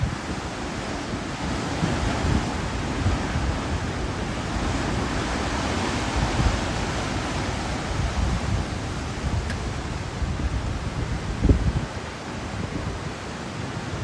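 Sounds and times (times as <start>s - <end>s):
hurricane wind blowing: 0.0s - 14.0s
wind gusts buffeting microphone: 0.0s - 14.0s.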